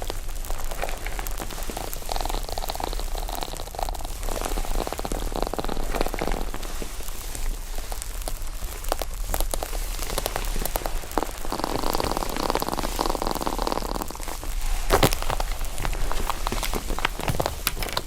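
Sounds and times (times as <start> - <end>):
foam slime cracking and popping: 0.0 - 18.0.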